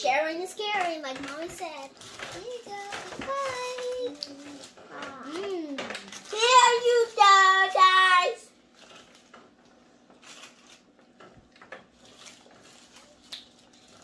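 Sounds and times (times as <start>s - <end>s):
paper wrappers rustling: 0.0s - 14.0s.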